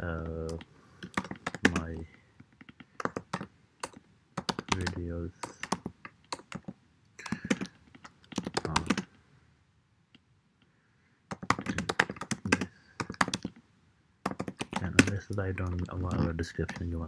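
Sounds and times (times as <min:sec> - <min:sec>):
keyboard typing: 0:00.2 - 0:09.2, 0:11.3 - 0:13.6, 0:14.2 - 0:17.0.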